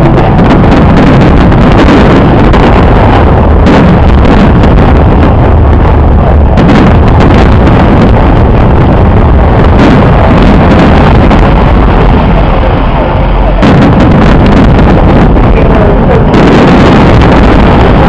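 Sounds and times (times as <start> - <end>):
fireworks cracking: 0.0 - 18.0.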